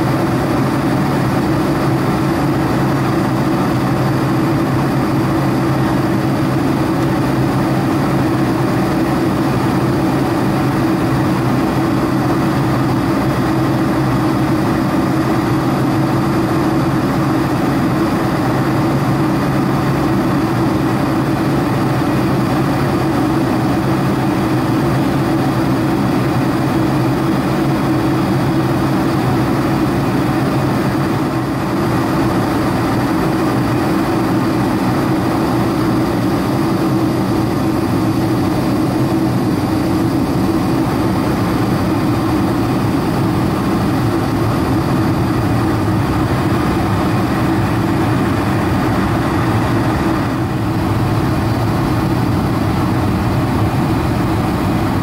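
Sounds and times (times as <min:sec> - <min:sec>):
constant low hum: 0:00.0 - 0:55.0
jet engines droning: 0:00.0 - 0:55.0
rushing airflow: 0:00.0 - 0:55.0.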